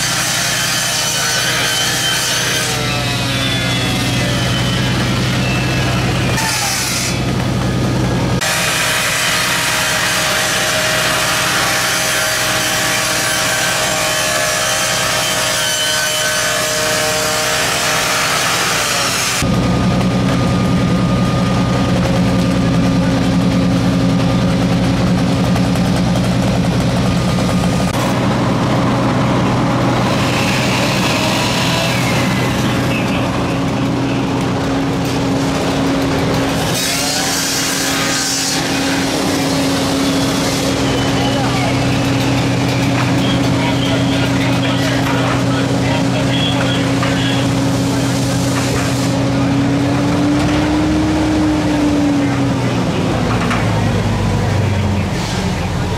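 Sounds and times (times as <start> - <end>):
engines and pumps running: 0.0 - 55.9.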